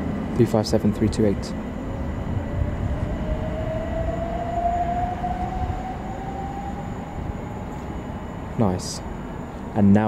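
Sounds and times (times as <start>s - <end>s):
traction motor whine rising: 0.0s - 9.6s
electric train accelerating: 0.0s - 10.0s.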